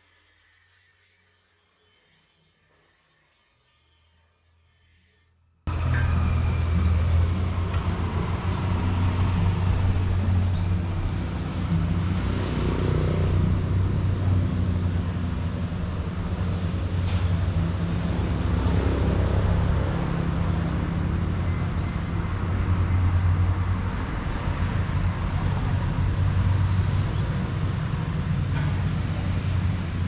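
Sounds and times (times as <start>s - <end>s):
road traffic rumble: 5.7s - 30.0s.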